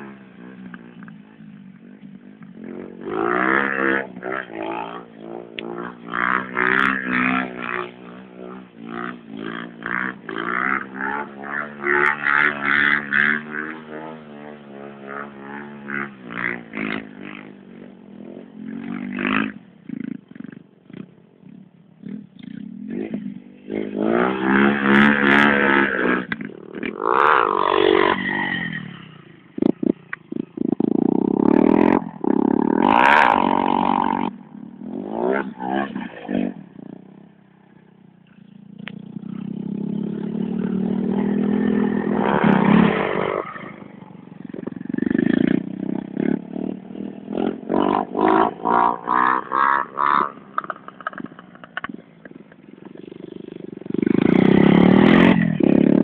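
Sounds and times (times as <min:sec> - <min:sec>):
quad bike engine revving: 0:00.0 - 0:56.0
small motorcycle revving: 0:00.0 - 0:56.0.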